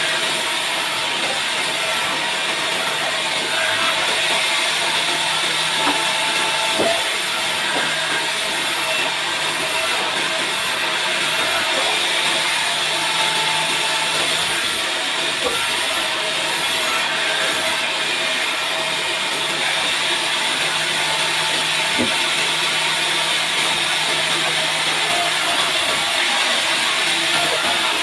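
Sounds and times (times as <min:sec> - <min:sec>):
band saw cutting timber: 0:00.0 - 0:28.0.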